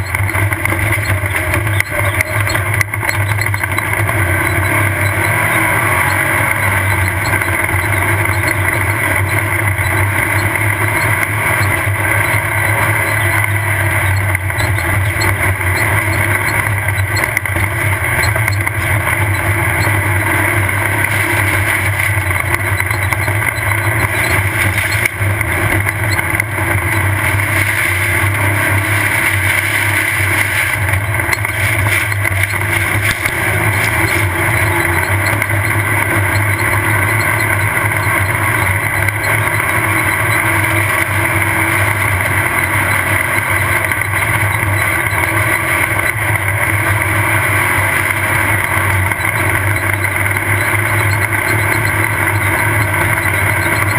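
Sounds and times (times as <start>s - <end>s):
vehicle engine running hard: 0.0s - 53.9s.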